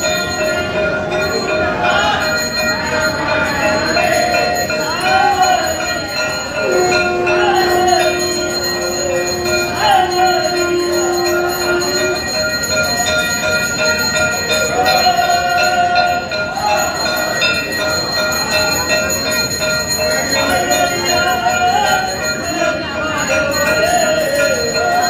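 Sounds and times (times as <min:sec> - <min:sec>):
long steady tone: 0:00.0 - 0:25.0
temple bells ringing: 0:00.0 - 0:25.0
voices: 0:00.0 - 0:25.0.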